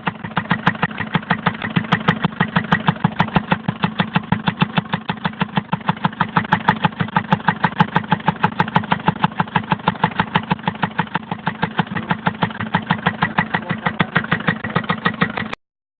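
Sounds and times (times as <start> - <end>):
diesel engine idling with knock: 0.0 - 15.6.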